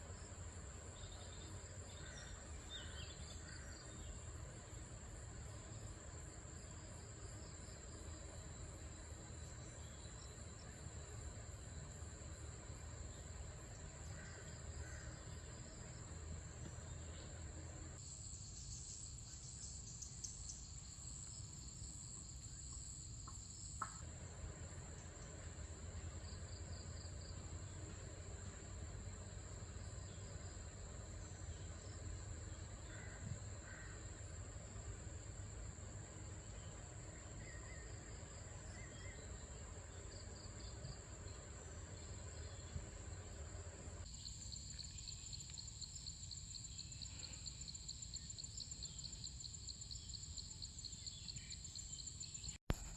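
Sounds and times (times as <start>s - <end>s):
high-pitched insect chorus: 0.0s - 24.0s, 24.6s - 52.9s.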